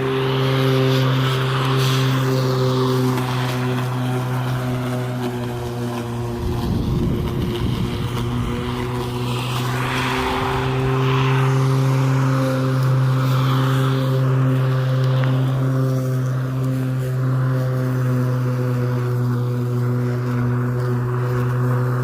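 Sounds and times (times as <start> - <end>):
electric lawn mower humming: 0.0 - 22.0.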